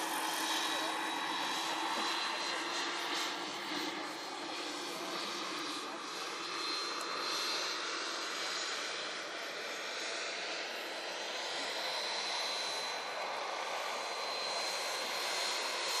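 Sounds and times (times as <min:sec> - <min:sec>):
model aircraft engine whining: 0:00.0 - 0:16.0.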